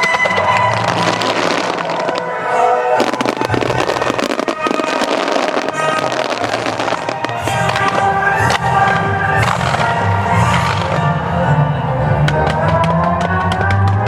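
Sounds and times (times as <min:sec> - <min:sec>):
fireworks banging and crackling: 0:00.0 - 0:14.0
music over loudspeakers: 0:00.0 - 0:14.0.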